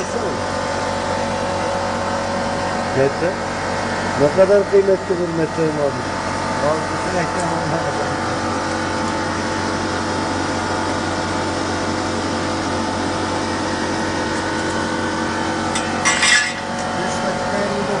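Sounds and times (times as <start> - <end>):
milling machine humming: 0.0 - 18.0.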